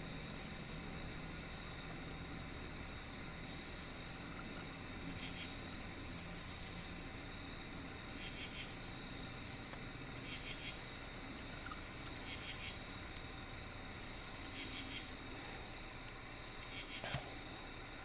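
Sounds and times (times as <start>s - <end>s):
insects trilling: 0.0s - 18.0s
pulsed cricket chirping: 0.0s - 18.0s.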